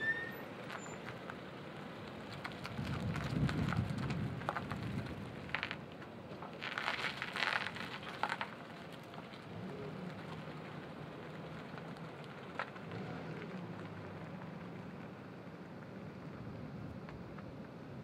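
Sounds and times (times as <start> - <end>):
low engine hum: 0.0 - 18.0
tyres crackling on asphalt: 0.0 - 18.0.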